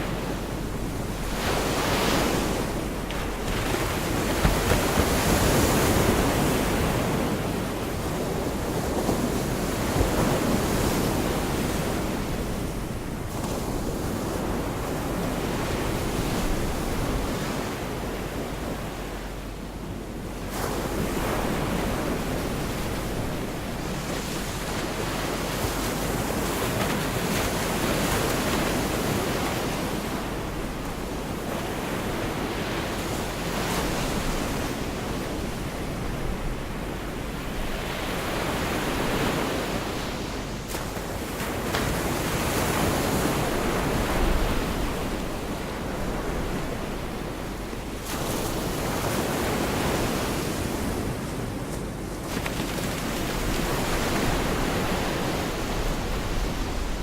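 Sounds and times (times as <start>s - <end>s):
surf washing onto beach: 0.0s - 18.0s, 20.5s - 57.0s.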